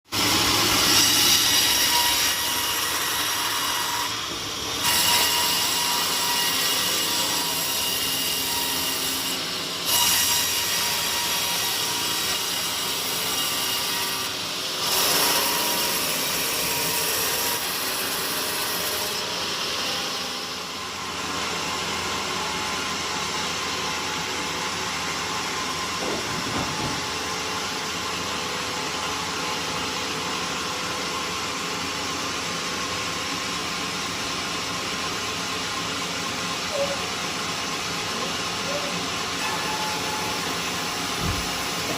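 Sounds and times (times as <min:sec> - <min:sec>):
sawmill saw cutting log: 0:00.1 - 0:41.9.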